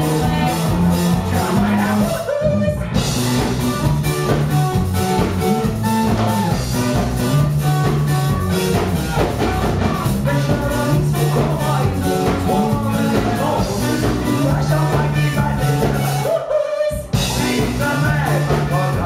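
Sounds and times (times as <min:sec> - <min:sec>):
bass guitar: 0:00.0 - 0:19.0
drum kit: 0:00.0 - 0:19.0
electric guitar: 0:00.0 - 0:19.0.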